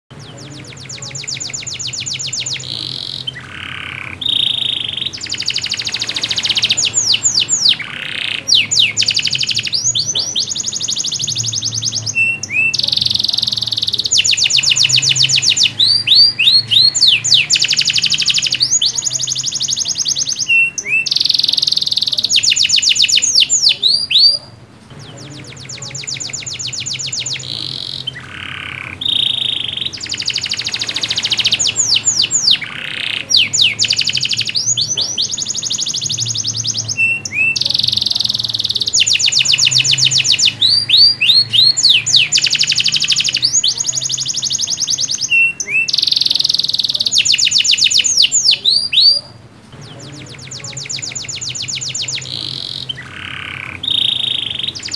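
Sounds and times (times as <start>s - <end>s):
canary singing trills: 0.1s - 54.9s.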